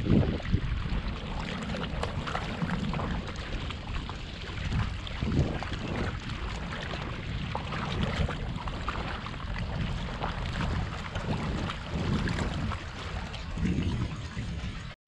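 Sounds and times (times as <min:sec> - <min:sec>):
waves lapping on rocks: 0:00.0 - 0:15.0
wind buffeting microphone: 0:00.0 - 0:15.0.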